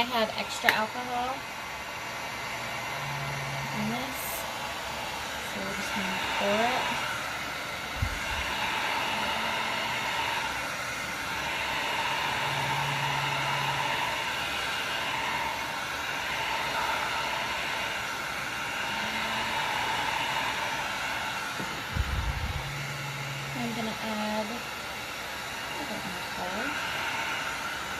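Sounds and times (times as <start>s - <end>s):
heat gun blowing: 0.0s - 27.9s.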